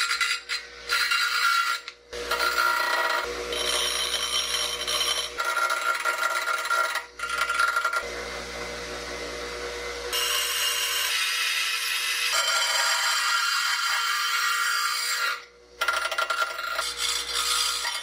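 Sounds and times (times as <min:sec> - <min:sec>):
metal rod grinding with ringing whine: 0:00.0 - 0:08.1, 0:10.1 - 0:18.0
bench grinder humming: 0:00.0 - 0:18.0.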